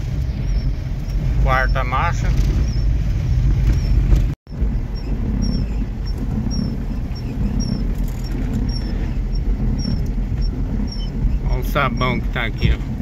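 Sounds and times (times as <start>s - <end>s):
car engine and tyres rumbling: 0.0s - 13.0s
short high squeaks: 0.3s - 12.5s.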